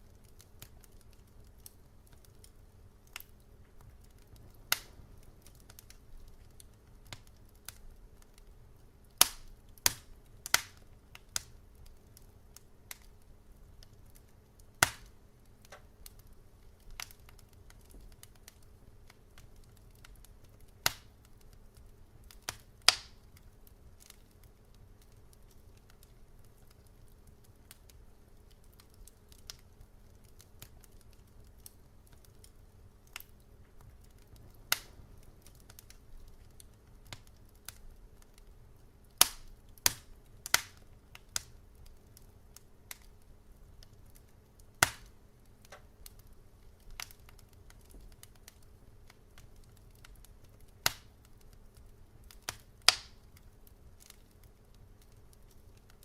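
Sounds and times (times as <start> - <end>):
low steady hum: 0.0 - 56.0
wood fire crackling: 0.0 - 56.0.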